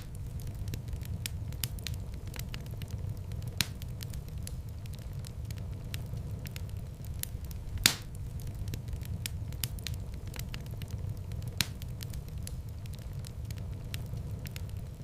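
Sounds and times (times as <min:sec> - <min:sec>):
fire crackling in a fireplace: 0:00.0 - 0:15.0
loud fire pops: 0:00.0 - 0:15.0.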